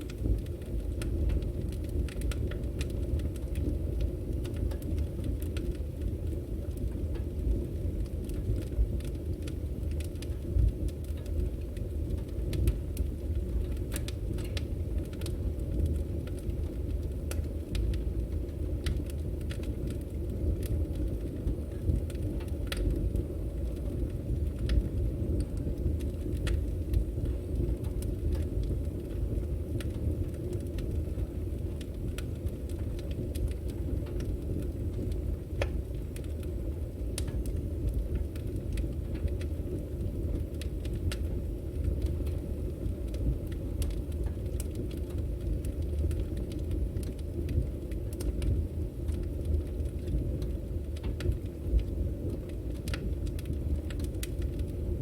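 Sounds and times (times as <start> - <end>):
firewood burning and crackling: 0.0 - 55.0.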